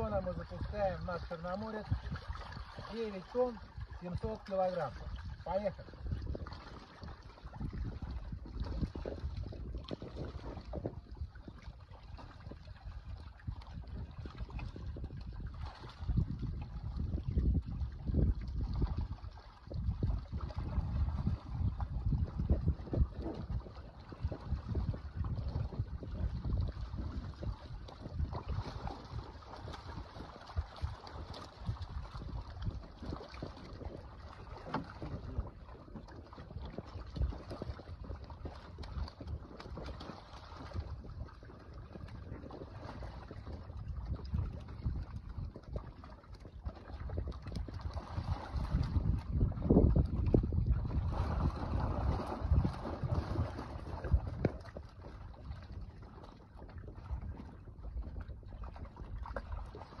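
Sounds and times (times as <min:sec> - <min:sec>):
wind rumble on microphone: 0:00.0 - 1:00.0.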